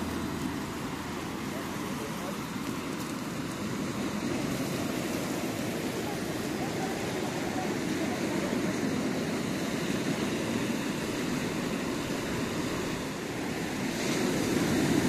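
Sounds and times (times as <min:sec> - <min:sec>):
distant voices murmuring: 0:00.0 - 0:13.9
small waves on shore: 0:00.0 - 0:15.0.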